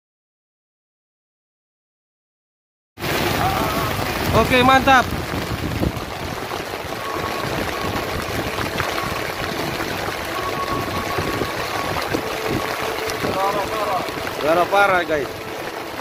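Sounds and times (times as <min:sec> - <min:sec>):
water rushing: 0:03.0 - 0:16.0.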